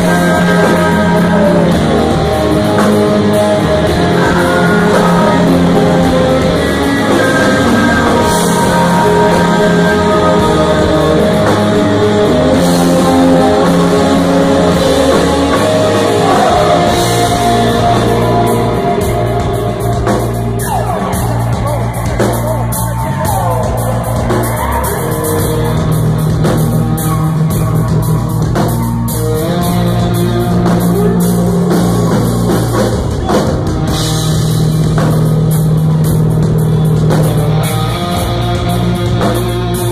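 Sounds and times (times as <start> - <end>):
person singing: 0.0 - 35.1
live rock band playing: 0.0 - 39.9.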